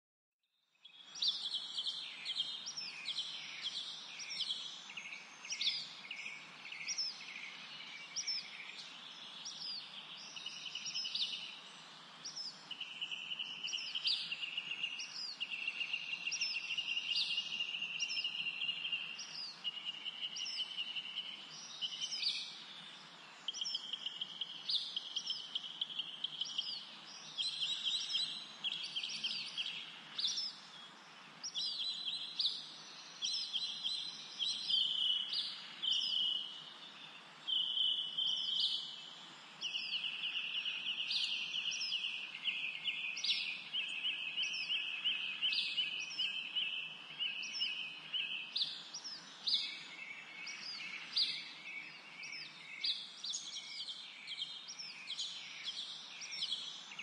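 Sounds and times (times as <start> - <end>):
songbirds singing and chirping: 0.5 - 57.0
background hiss: 0.9 - 57.0.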